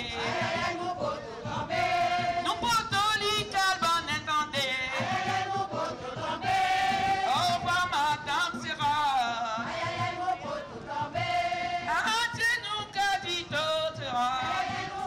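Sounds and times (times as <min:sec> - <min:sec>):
group singing a chant: 0:00.0 - 0:15.0.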